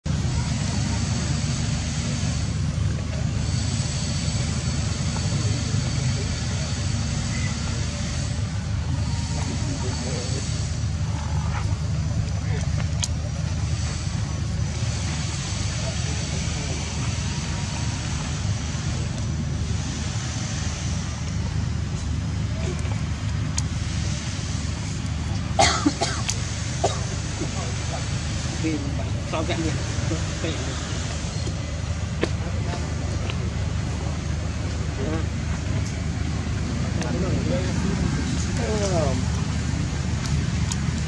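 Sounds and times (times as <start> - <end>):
steady low rumble: 0.0 - 41.0
hiss: 0.1 - 41.0.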